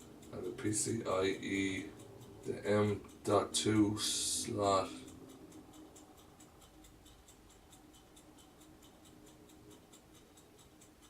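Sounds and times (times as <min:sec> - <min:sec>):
faint rapid ticking: 0:00.0 - 0:11.0
faint steady hum: 0:00.0 - 0:11.0.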